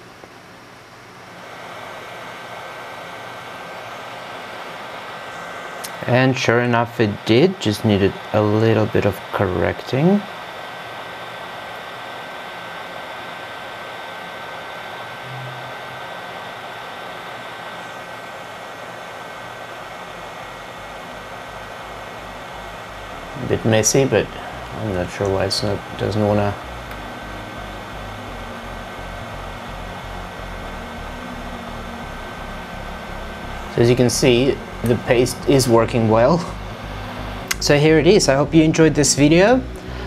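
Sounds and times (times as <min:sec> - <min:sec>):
thin steady whine: 0:00.0 - 0:40.0
hot air blower rushing: 0:01.4 - 0:38.7.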